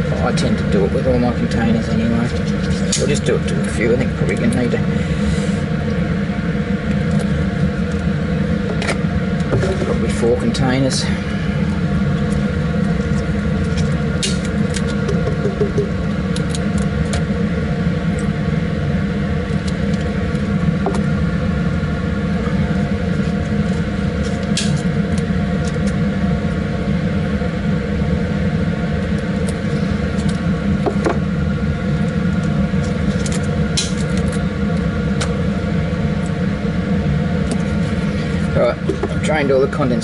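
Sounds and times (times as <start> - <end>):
blower fan hum: 0.0 - 40.0.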